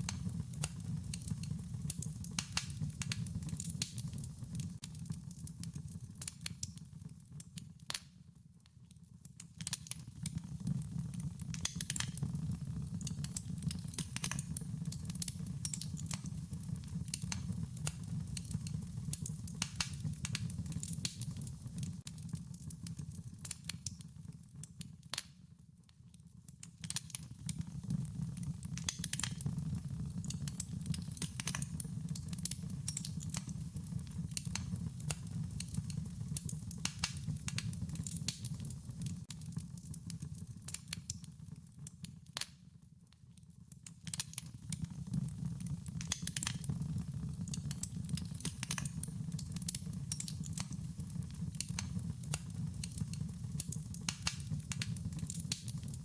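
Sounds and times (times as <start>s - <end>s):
wood fire crackling: 0.0s - 8.2s, 8.8s - 25.4s, 26.3s - 42.6s, 43.8s - 56.0s.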